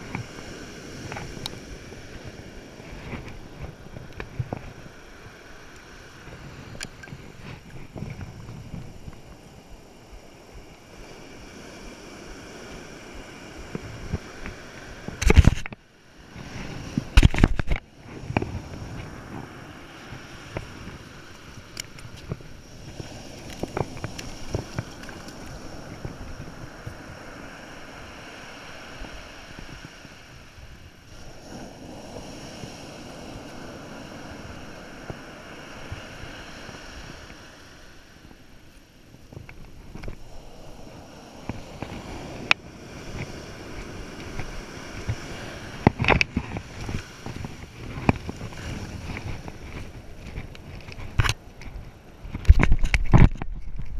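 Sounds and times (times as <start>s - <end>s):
surf: 0.0s - 53.9s
wind on microphone: 0.0s - 53.9s.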